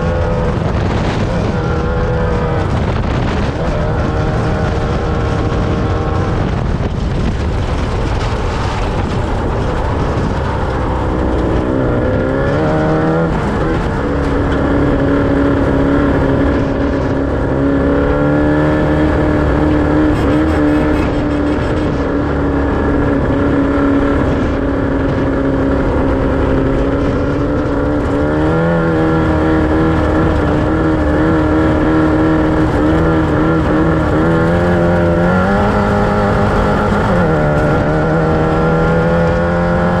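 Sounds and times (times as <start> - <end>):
off-road vehicle engine running hard: 0.0 - 40.0.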